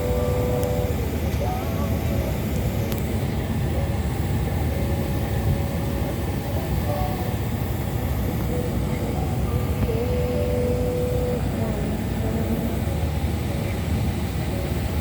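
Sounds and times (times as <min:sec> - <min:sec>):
aircraft and ground equipment rumble: 0:00.0 - 0:15.0
faint wavering whine: 0:00.0 - 0:15.0.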